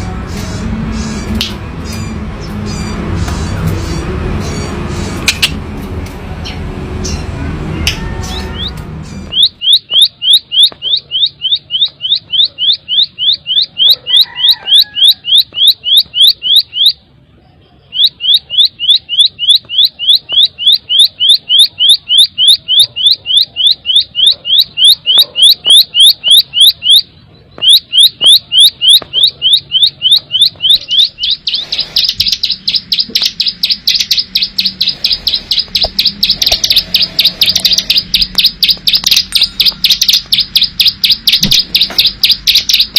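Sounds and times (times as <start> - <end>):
bird singing rapid rolling song: 0.2 - 5.3, 6.4 - 42.9.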